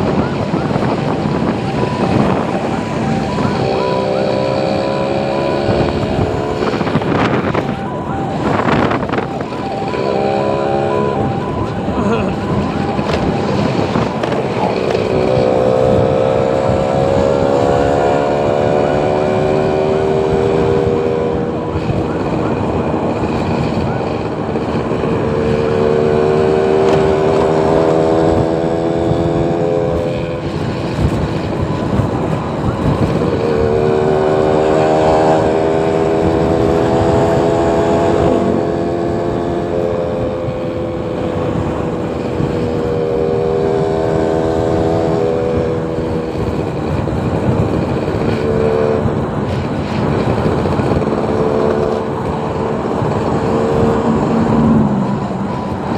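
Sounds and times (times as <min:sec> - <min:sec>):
steady road noise: 0:00.0 - 0:55.9
vehicles passing by: 0:00.0 - 0:55.9.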